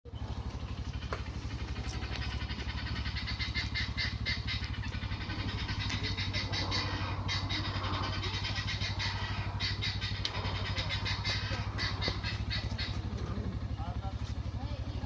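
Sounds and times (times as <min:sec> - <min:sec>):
engine idling: 0:00.1 - 0:15.0.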